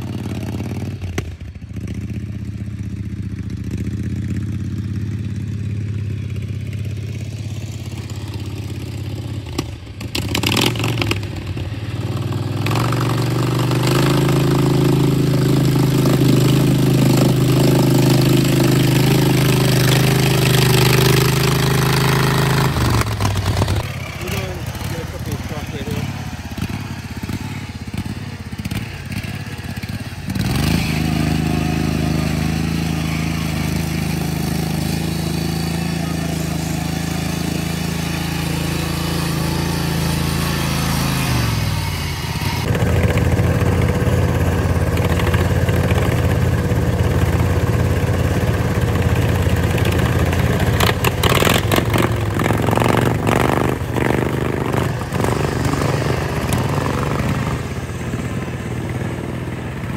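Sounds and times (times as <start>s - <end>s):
lawn tractor engine running hard: 0.0s - 59.9s.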